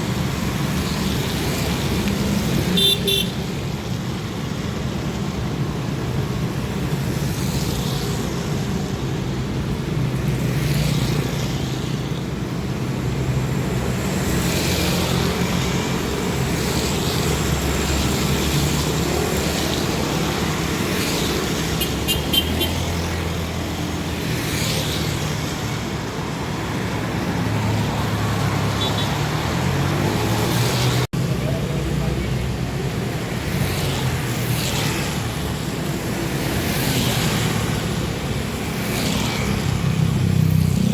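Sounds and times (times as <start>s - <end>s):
vehicles passing by: 0.0s - 40.9s.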